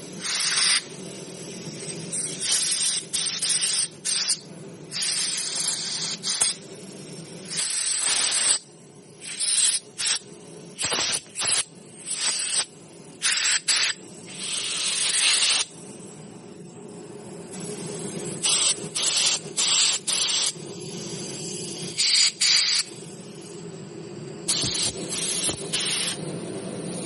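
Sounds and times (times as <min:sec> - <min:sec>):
aerosol spray hissing: 0:00.0 - 0:16.1, 0:16.9 - 0:27.0.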